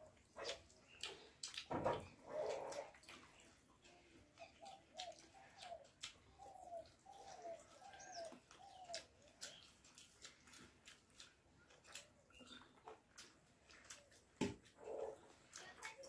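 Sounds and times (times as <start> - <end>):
fingers mixing food on plates: 0.0 - 16.0
mouths chewing and smacking: 0.0 - 16.0.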